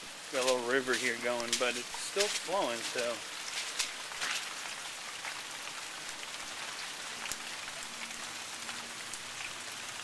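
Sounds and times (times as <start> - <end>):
steady rain falling: 0.0 - 10.0
water running in a stream: 0.0 - 10.0.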